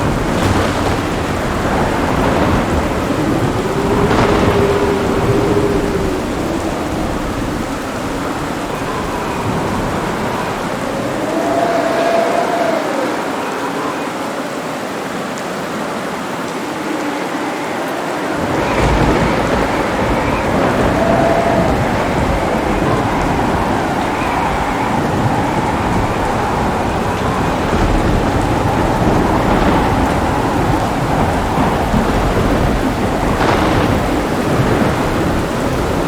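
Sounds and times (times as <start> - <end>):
thunder rumbling: 0.0 - 14.4, 16.6 - 36.0
heavy rain falling: 0.0 - 36.0.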